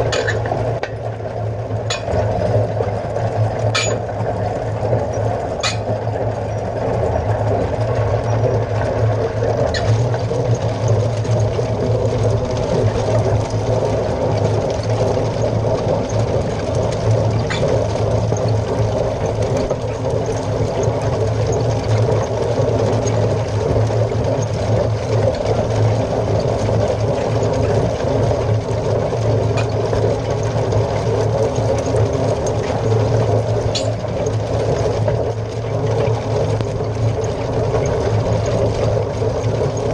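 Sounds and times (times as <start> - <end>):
hay rake mechanical rattle: 0.0 - 39.9
tractor diesel engine running: 0.0 - 39.9.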